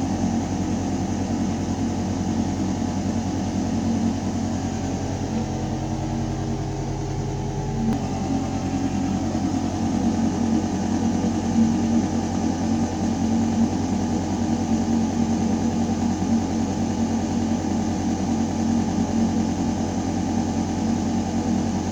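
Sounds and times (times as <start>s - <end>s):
ventilation hum: 0.0s - 21.9s.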